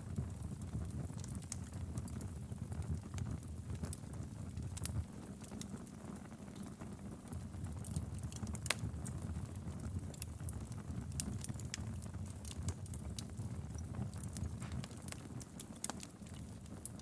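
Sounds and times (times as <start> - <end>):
fire popping and snapping: 0.0 - 17.0
low rumble of fire: 0.0 - 17.0.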